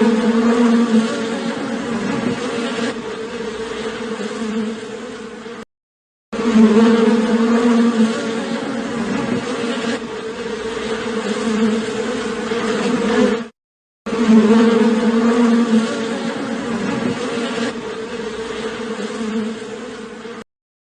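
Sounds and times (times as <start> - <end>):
flying insect buzzing: 0.0 - 5.7, 6.4 - 20.5.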